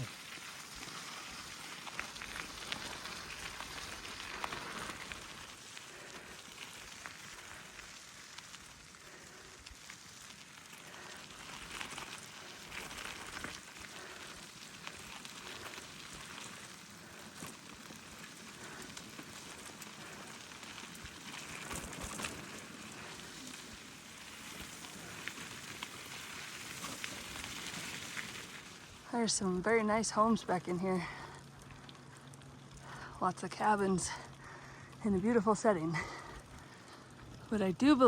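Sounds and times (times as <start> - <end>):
bike tyres rolling on muddy road: 0.0 - 38.0.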